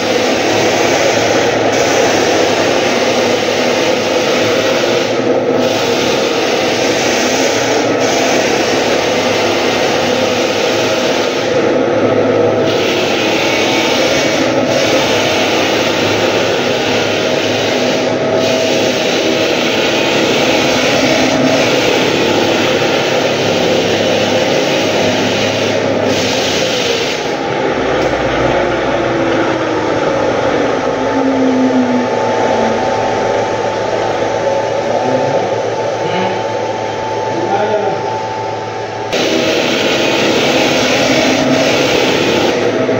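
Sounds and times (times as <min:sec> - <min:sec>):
floor sander grinding wood: 0:00.0 - 0:42.9.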